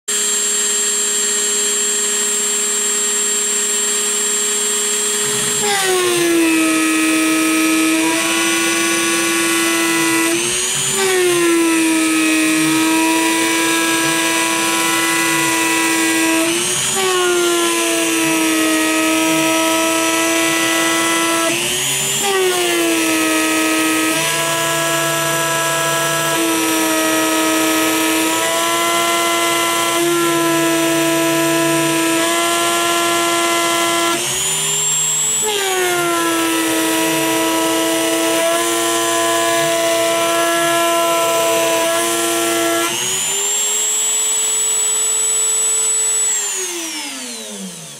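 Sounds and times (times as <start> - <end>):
rotary tool whining: 0.2 - 47.9.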